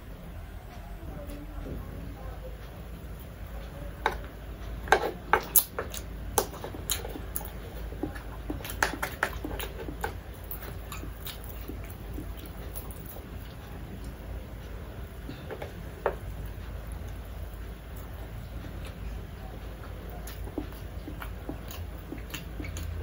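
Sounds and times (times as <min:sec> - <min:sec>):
low steady hum: 0:00.0 - 0:23.0
person chewing: 0:04.1 - 0:23.0.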